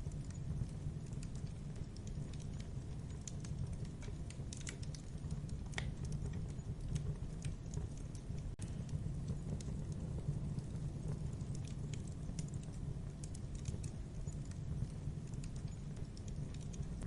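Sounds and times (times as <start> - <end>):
crackles and snaps of burning wood: 0.0 - 17.0
low rush of flame: 0.0 - 17.0.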